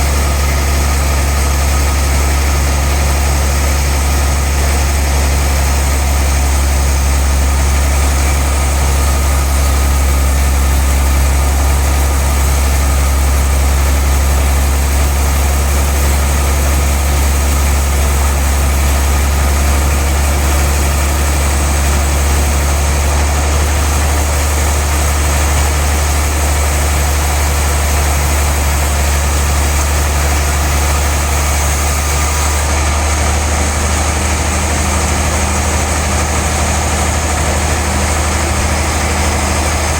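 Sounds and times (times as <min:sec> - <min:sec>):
sawmill machine humming: 0:00.0 - 0:39.9.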